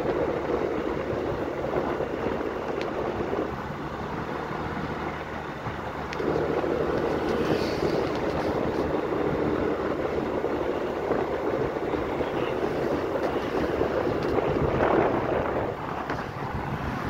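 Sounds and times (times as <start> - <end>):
road noise: 0.0 - 17.0
vehicle engine hum: 0.0 - 17.0
wind rushing over microphone: 0.0 - 17.0.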